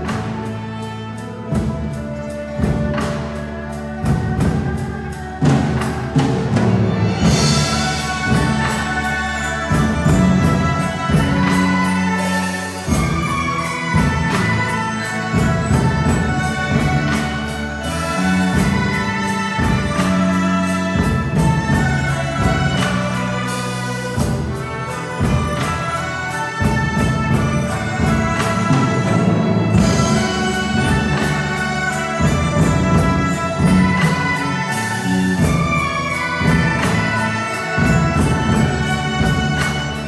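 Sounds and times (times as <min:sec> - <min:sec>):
bowed erhu: 0:00.0 - 0:40.0
sharp percussion strikes: 0:00.0 - 0:40.0
traditional orchestra playing: 0:00.0 - 0:40.0.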